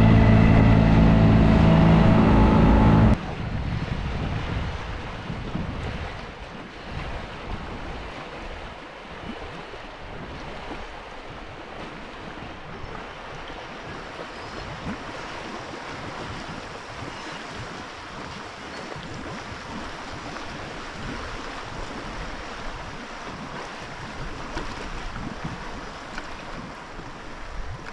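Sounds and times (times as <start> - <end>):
sea water splashing: 0.0 - 3.2, 4.7 - 27.9
wind buffeting microphone: 0.0 - 27.9.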